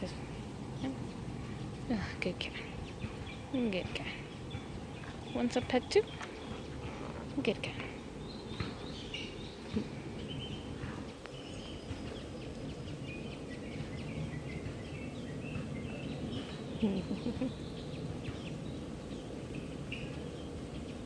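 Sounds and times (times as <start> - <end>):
low background noise: 0.0 - 21.0
small birds chirping: 0.0 - 21.0.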